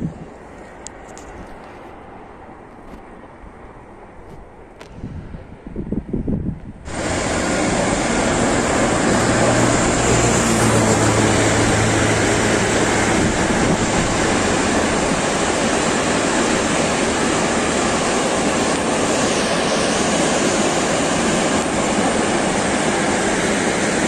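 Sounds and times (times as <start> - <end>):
freight train wheels on rail: 0.0 - 24.0.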